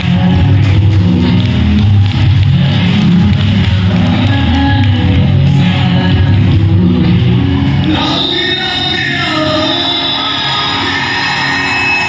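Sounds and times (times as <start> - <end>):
dance music: 0.0 - 12.0.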